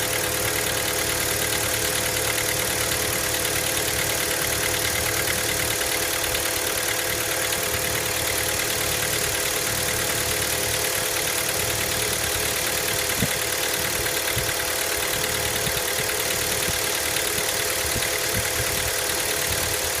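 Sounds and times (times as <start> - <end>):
car engine idling with knock: 0.0 - 20.0.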